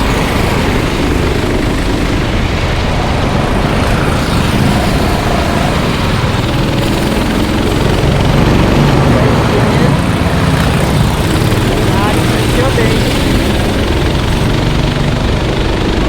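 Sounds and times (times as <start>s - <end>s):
race engines droning: 0.0s - 16.0s.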